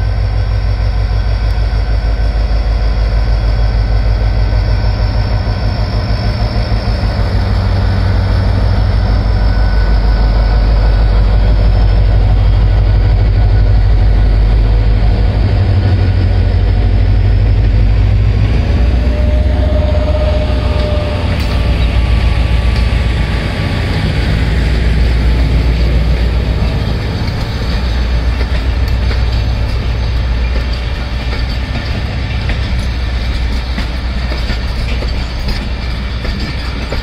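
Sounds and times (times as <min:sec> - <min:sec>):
diesel locomotive engine rumbling: 0:00.0 - 0:37.0.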